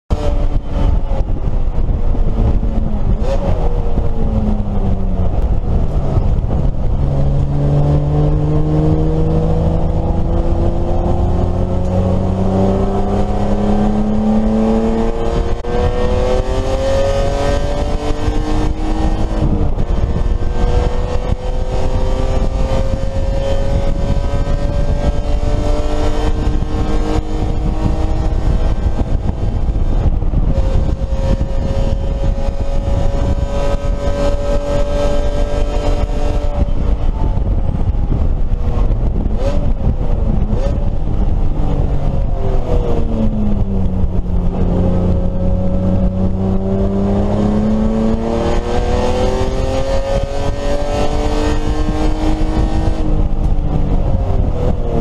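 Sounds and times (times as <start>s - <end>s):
loud road noise: 0.1s - 55.0s
race car engine revving: 0.1s - 55.0s.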